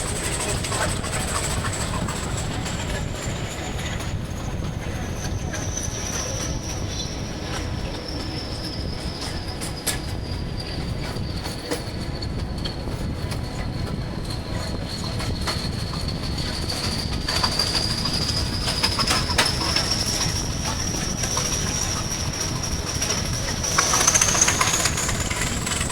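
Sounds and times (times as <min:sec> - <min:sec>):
high wheel squeal: 0:00.0 - 0:12.9, 0:14.5 - 0:25.9
train rumbling on rails: 0:00.0 - 0:25.9.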